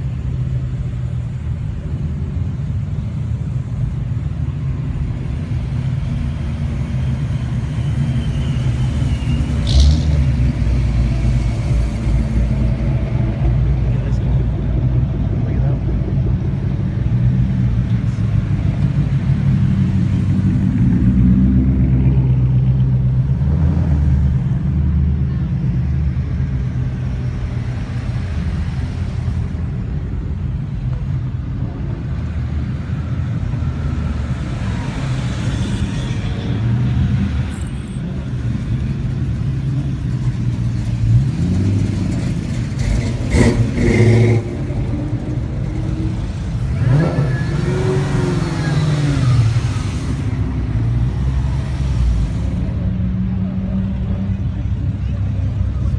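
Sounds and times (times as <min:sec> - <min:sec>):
car engines rumbling and revving: 0:00.0 - 0:55.9.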